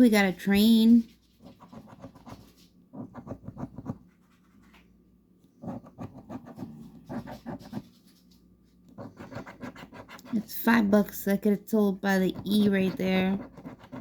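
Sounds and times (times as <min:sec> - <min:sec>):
scratching lottery ticket: 0:00.0 - 0:04.9, 0:05.6 - 0:14.0.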